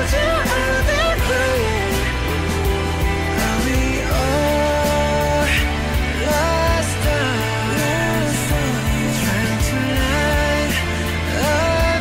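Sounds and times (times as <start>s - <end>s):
bass accompaniment: 0.0s - 12.0s
man singing pop ballad: 0.0s - 12.0s.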